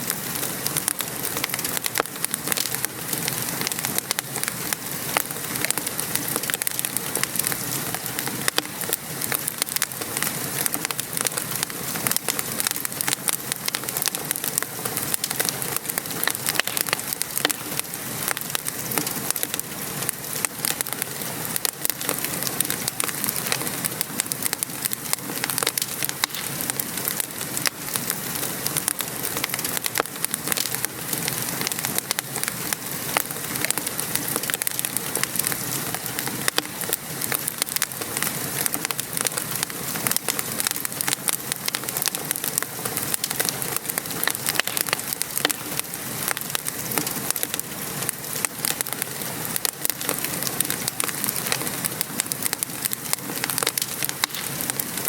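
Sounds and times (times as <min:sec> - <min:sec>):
rain pattering: 0:00.0 - 0:55.0
wood fire crackling and popping: 0:00.0 - 0:55.0.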